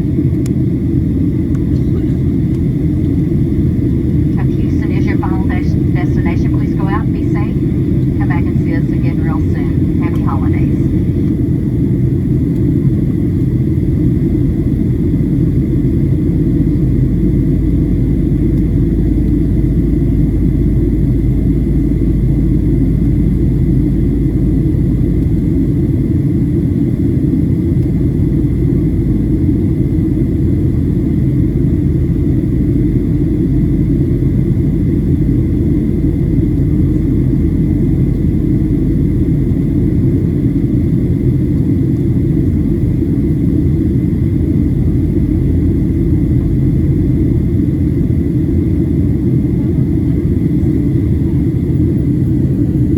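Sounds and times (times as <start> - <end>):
airplane cabin rumble: 0.0 - 52.9
faint steady whine: 0.0 - 52.9.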